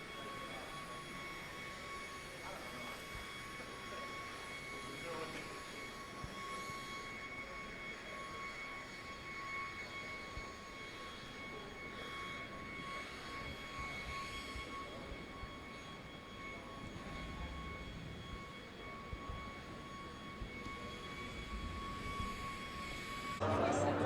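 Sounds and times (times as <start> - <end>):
high-pitched machine whine: 0.0 - 24.0.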